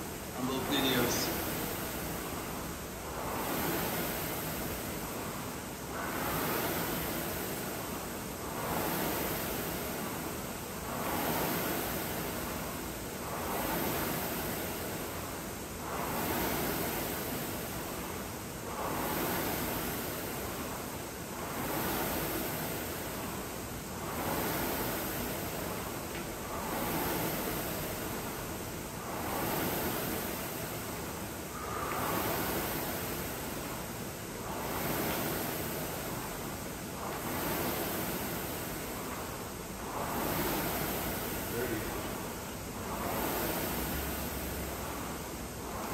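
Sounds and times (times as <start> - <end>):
rowing machine flywheel whooshing: 0.0 - 45.9.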